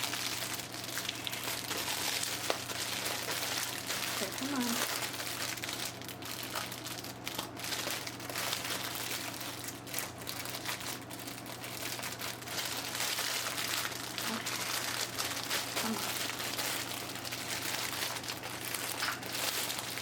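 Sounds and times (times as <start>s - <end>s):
low fan hum: 0.0s - 20.0s
plastic bags crinkling: 0.0s - 20.0s.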